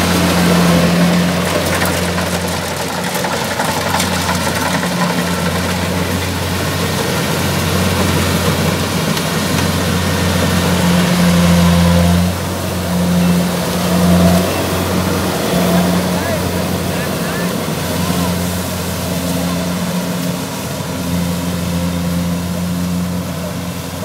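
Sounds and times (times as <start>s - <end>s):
cutting and threshing machinery: 0.0s - 24.0s
diesel engine under load: 0.0s - 24.0s.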